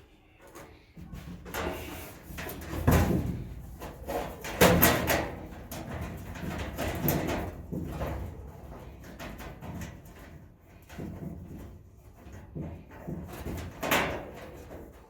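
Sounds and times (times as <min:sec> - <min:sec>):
sheet metal panels clunking: 0:00.5 - 0:15.0.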